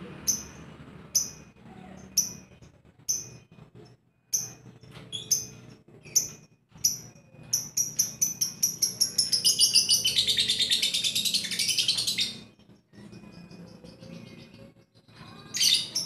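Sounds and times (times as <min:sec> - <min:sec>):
lovebird chirping and trilling: 0:00.2 - 0:16.0.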